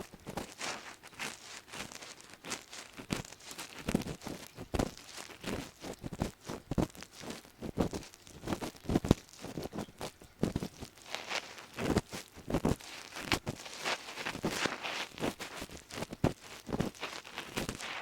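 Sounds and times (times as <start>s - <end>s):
crackling: 0.0s - 18.0s
ear pick scraping microphone: 0.0s - 18.0s.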